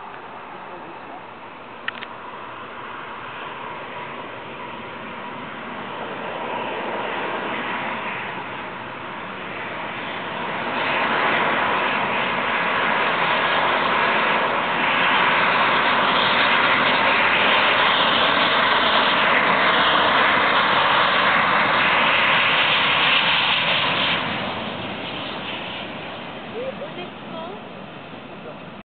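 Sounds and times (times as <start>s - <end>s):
jet airliner engines rushing: 0.0s - 28.8s.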